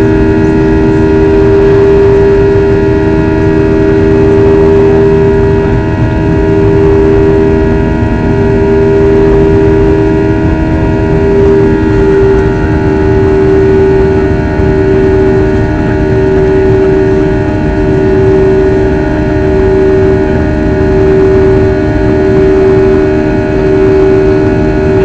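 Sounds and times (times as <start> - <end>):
aircraft engines droning: 0.0 - 25.0.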